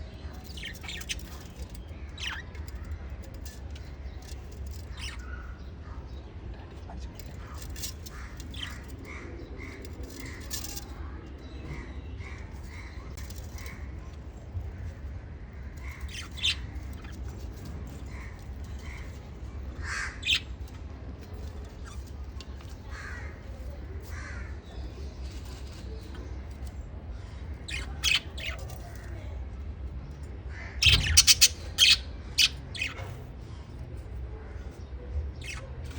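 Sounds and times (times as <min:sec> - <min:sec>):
crackly rustling: 0:00.1 - 0:05.8, 0:06.4 - 0:34.8
parrot chicks begging chirps: 0:00.1 - 0:06.2, 0:07.2 - 0:29.3, 0:30.2 - 0:35.9.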